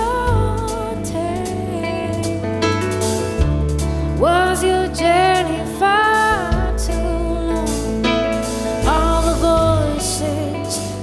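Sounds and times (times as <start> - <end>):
woman singing: 0.0 - 2.8, 4.1 - 11.0
grand piano accompaniment: 0.0 - 11.0.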